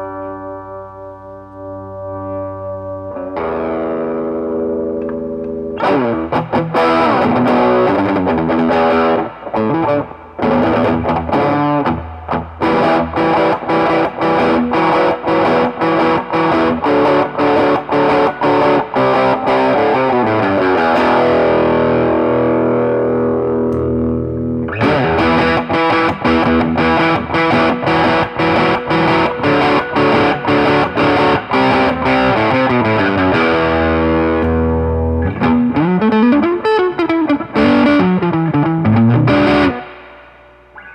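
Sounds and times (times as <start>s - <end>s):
overdriven electric guitar riffs: 0.0s - 40.9s.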